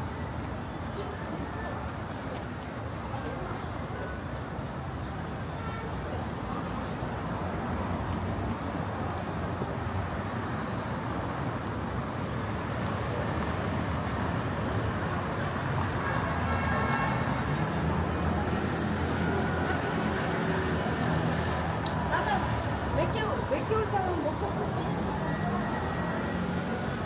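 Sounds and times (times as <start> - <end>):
vehicles passing: 0.0 - 27.0.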